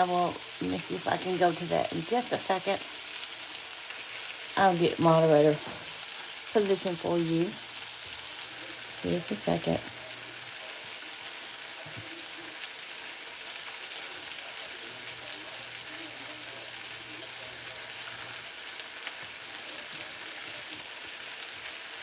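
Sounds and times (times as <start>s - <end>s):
cabbage sizzling in a skillet: 0.0s - 22.0s.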